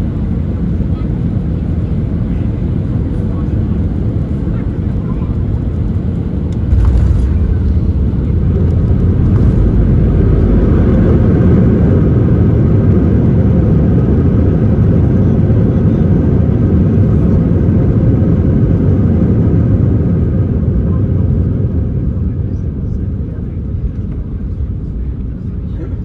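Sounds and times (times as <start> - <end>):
airliner cabin engine rumble: 0.0 - 26.0
faint engine whine: 0.0 - 26.0.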